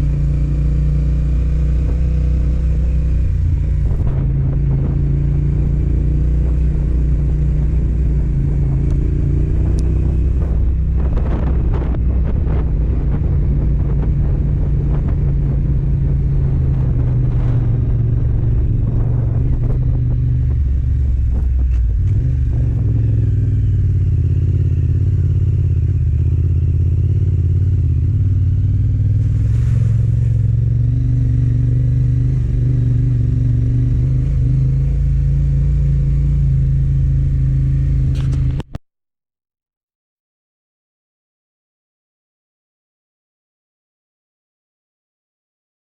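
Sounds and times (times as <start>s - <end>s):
motorcycle engine running: 0.0s - 38.8s.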